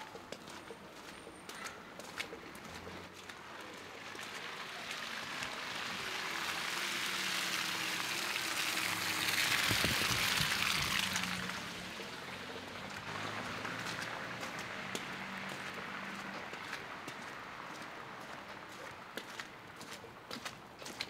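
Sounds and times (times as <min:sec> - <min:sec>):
low engine hum: 0:02.3 - 0:19.8
tyre hiss on wet street: 0:02.4 - 0:20.5.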